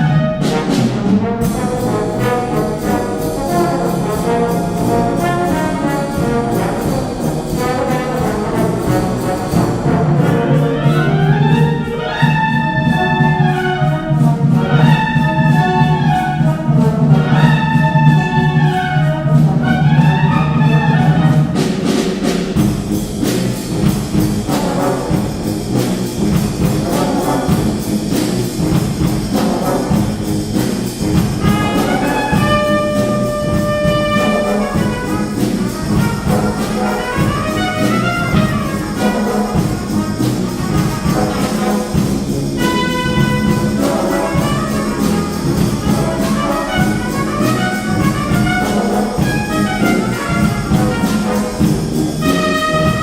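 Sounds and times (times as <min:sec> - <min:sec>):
wind band playing: 0:00.0 - 0:53.0.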